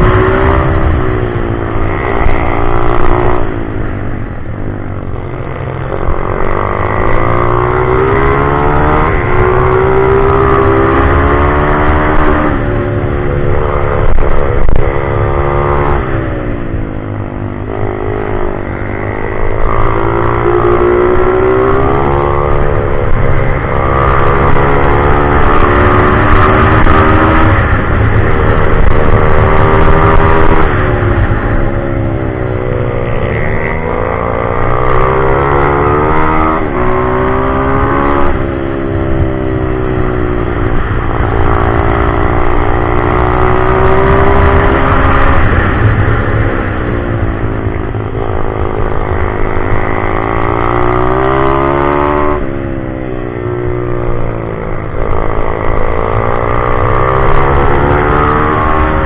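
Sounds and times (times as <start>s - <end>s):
pit bike engine revving: 0.0s - 3.8s, 4.9s - 59.0s.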